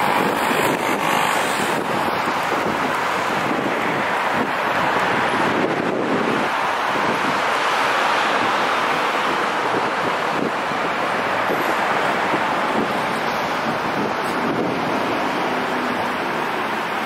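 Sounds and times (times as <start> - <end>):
traffic on wet roads: 0.0 - 17.0.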